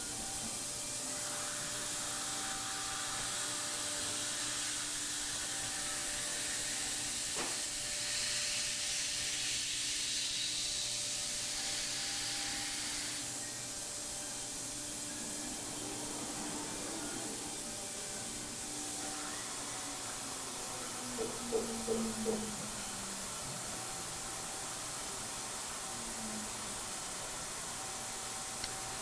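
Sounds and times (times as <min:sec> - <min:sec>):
cnc router humming: 0:00.0 - 0:29.0.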